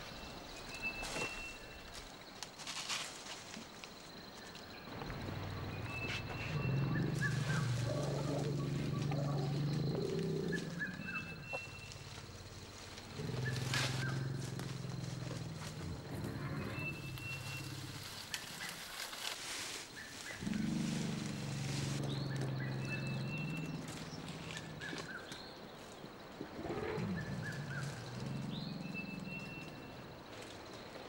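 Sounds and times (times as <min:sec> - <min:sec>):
vegetation crackling: 0:04.4 - 0:31.0.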